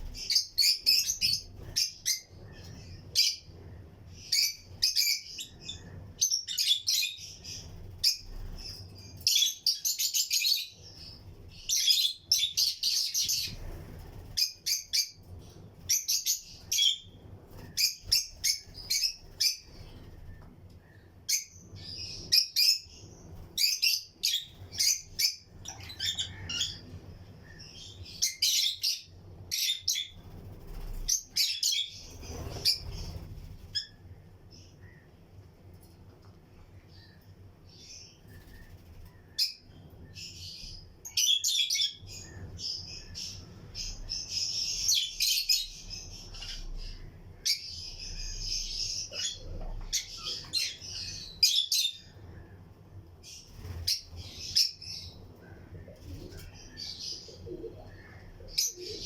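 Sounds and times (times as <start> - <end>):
lovebirds chirping: 0.0 - 35.4, 36.6 - 59.0.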